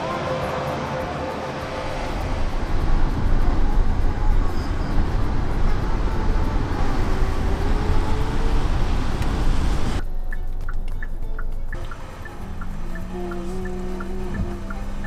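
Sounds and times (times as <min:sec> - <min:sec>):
car road and tyre rumble: 0:00.0 - 0:15.0.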